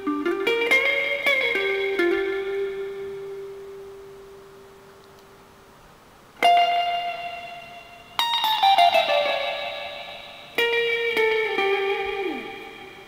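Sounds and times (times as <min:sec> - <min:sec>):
electric guitar with reverb: 0:00.0 - 0:05.0, 0:06.4 - 0:13.0.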